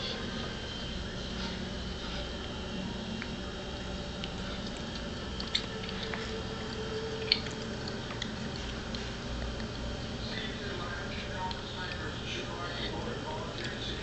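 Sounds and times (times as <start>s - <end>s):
room noise: 0.0s - 14.0s.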